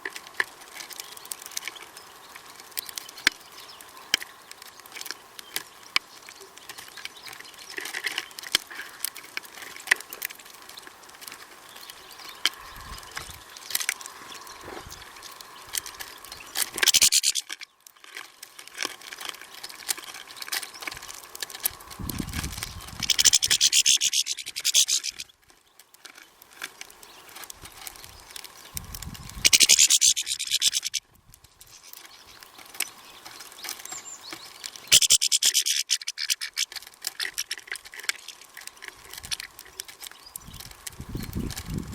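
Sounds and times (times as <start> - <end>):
birds pecking and tapping: 0.0 - 41.9
scratching and rustling bursts: 0.0 - 41.9.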